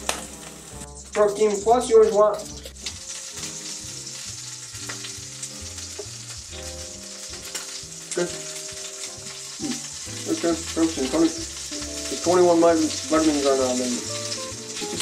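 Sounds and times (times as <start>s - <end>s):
steak sizzling in a pan: 0.0s - 15.0s.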